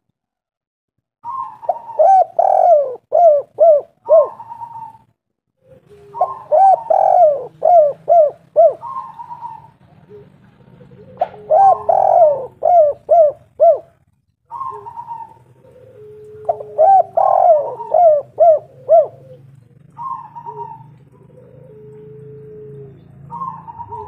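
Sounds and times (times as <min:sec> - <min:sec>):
dove cooing: 0:01.2 - 0:24.0.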